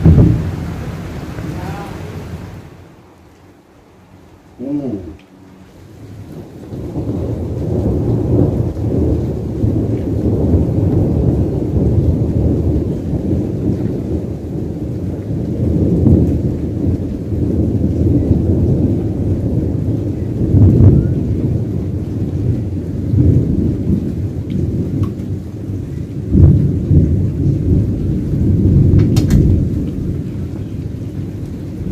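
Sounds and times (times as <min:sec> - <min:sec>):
thunder rumbling: 0:00.0 - 0:31.9.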